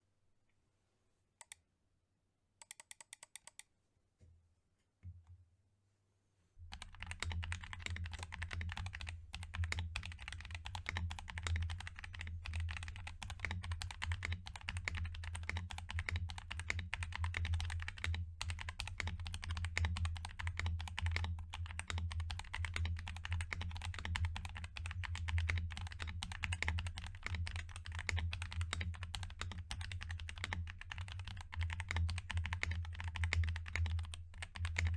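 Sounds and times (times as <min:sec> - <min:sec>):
mechanical keyboard typing: 0:02.6 - 0:03.6, 0:06.7 - 0:34.9.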